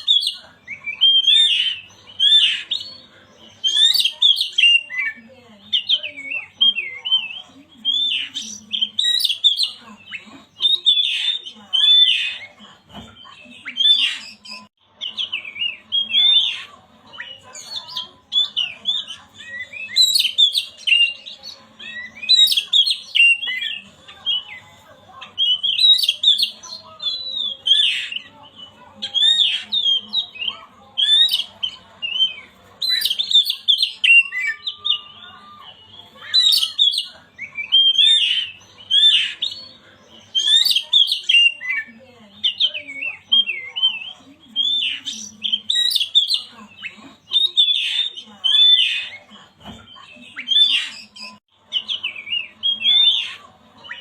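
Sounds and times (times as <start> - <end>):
magpie-robin singing: 0.0 - 54.0.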